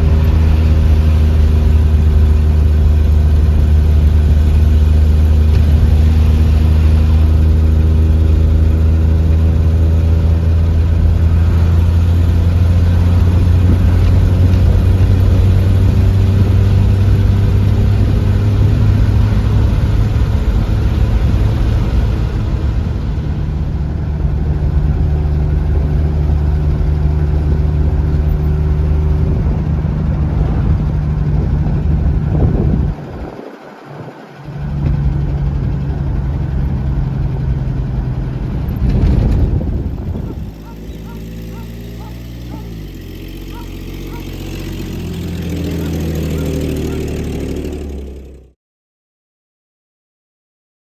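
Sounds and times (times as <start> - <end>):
car engine droning: 0.0 - 48.6.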